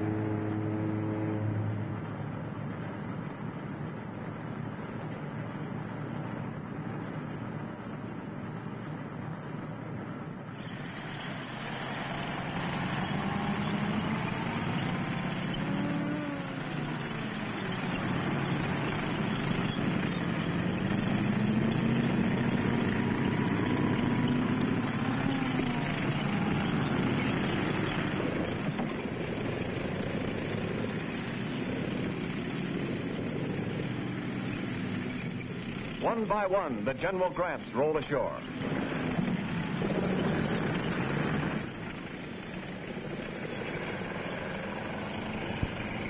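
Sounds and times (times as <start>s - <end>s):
heavy engines running: 0.0s - 46.0s.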